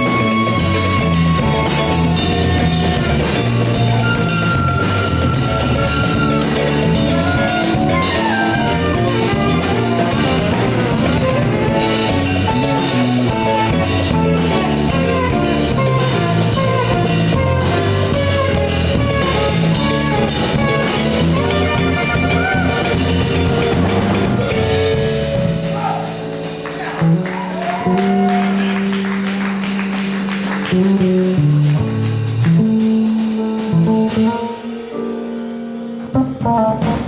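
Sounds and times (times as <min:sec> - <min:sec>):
jazz fusion band playing: 0:00.0 - 0:37.0.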